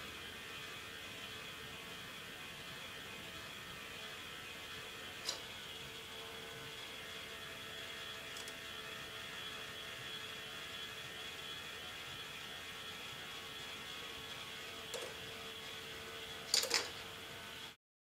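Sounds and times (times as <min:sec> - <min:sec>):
electric motor and gears whirring: 0:00.0 - 0:17.8.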